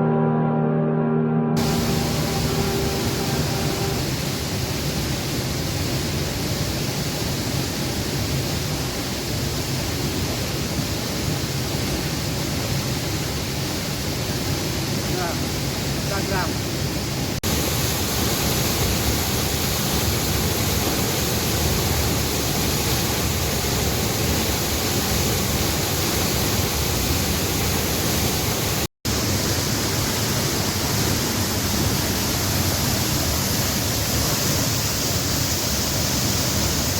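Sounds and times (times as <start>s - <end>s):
waterfall rushing: 1.6s - 36.9s.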